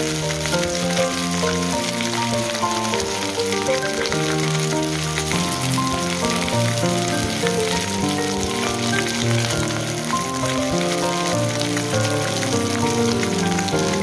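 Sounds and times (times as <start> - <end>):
background music: 0.0 - 14.0
fish sizzling in oil: 0.0 - 14.0.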